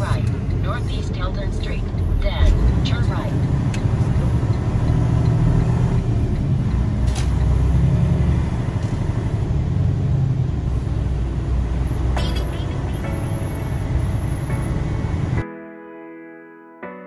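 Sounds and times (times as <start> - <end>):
truck engine rumble: 0.0 - 15.4.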